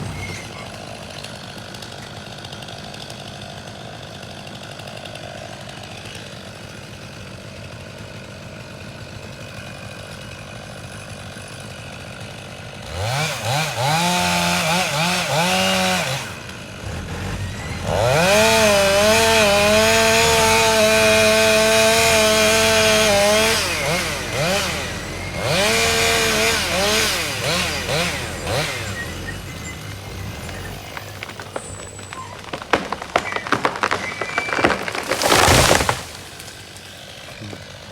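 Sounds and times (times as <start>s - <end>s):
chainsaw idling and revving: 0.0s - 37.9s.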